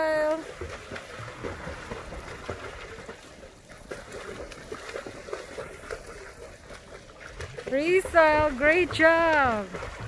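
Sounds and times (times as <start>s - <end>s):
swimming splashes: 0.0s - 10.0s.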